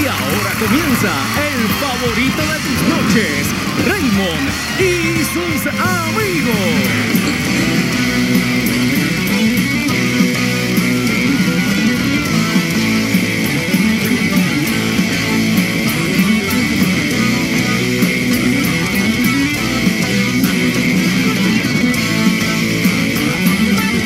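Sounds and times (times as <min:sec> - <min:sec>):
guitar-led band music: 0:00.0 - 0:24.0.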